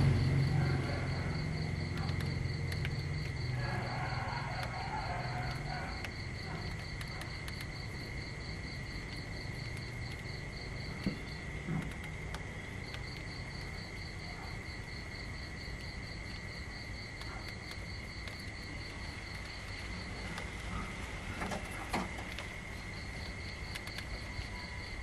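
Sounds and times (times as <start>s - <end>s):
pulsing insect call: 0.0s - 25.0s.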